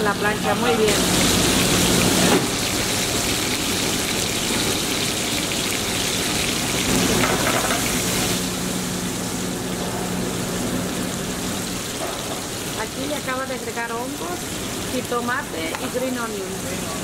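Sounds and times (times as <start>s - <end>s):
chicken sizzling in a pan: 0.1s - 17.0s.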